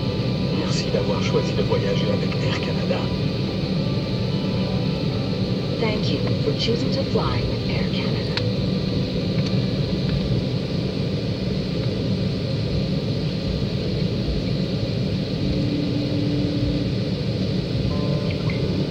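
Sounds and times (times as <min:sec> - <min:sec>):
airliner cabin rumble: 0:00.0 - 0:18.9
steady hum: 0:00.0 - 0:18.9.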